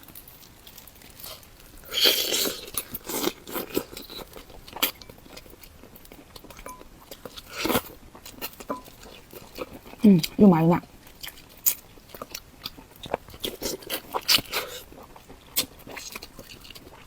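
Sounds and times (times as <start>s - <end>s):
biting and crunching: 0.0s - 17.0s
wet chewing: 0.0s - 17.0s.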